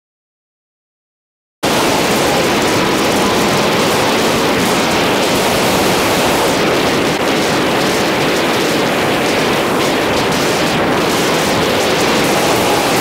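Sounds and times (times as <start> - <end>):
wind rushing over microphone: 1.6 - 13.0.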